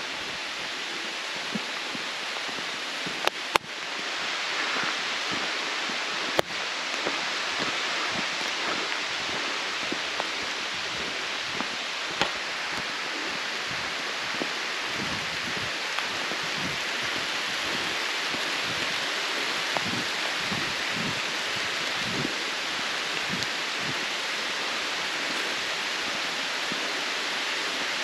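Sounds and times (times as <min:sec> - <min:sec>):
footsteps on a trail: 0:00.0 - 0:27.9
steady hiss: 0:00.0 - 0:28.0.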